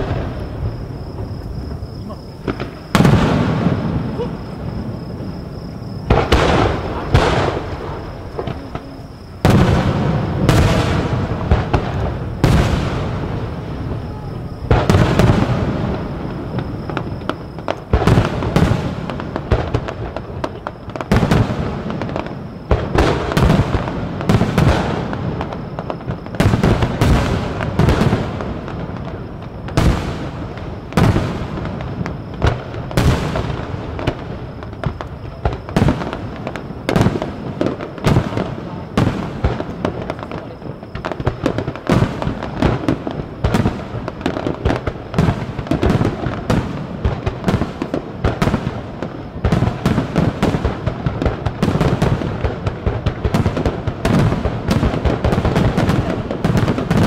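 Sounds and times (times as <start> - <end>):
firework shells booming: 0.0 - 57.0.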